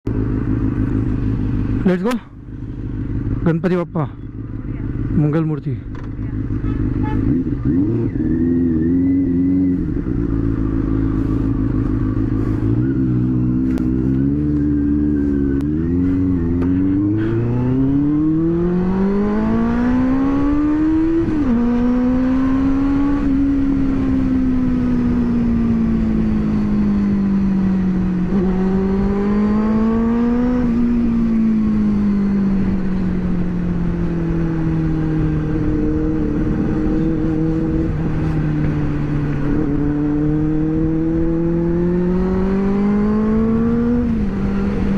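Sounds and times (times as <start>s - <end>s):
motorcycle engine revving: 0.1s - 44.9s.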